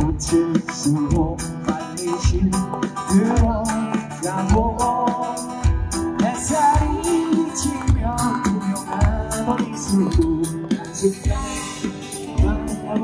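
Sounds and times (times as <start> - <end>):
backing music with drum beat: 0.0 - 13.0
person singing: 0.0 - 13.0.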